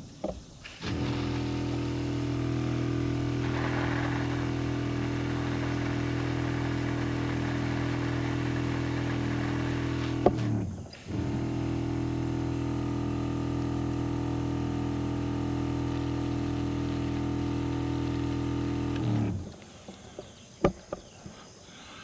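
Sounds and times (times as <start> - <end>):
sprayer pump running: 0.6 - 20.1.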